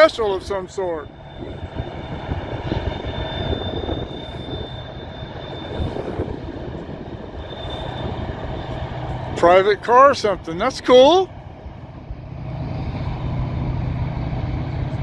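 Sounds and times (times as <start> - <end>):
diesel locomotives rumbling: 0.0 - 15.0
high whine: 0.0 - 15.0.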